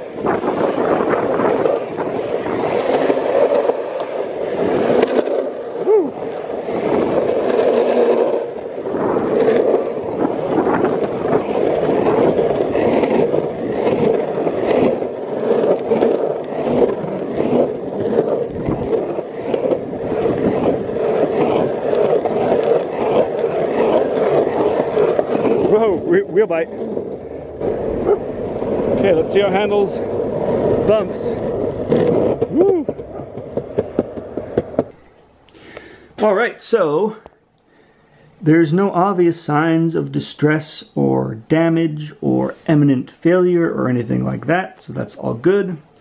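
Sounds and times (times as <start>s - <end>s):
skateboard wheels rolling on concrete: 0.0s - 46.0s.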